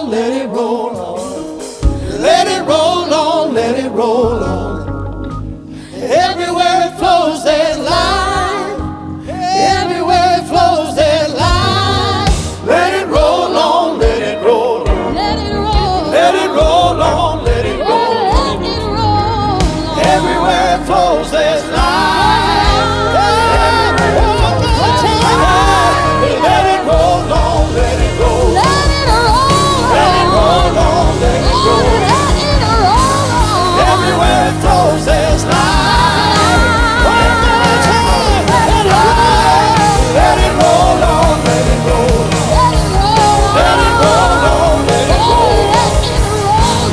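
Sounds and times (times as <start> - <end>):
singers holding ornamented lines: 0.0 - 46.9
worship band with drums and bass: 0.0 - 46.9.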